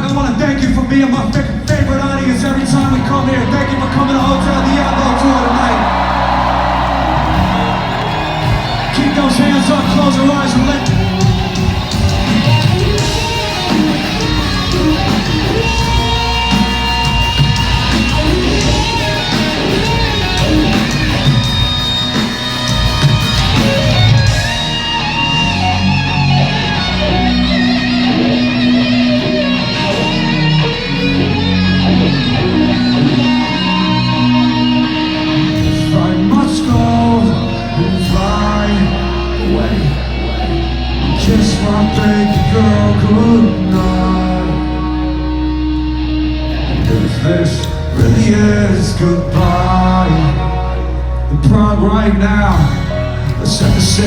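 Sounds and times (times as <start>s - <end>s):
electric guitar: 0.0s - 54.0s
live rock band music: 0.0s - 54.0s.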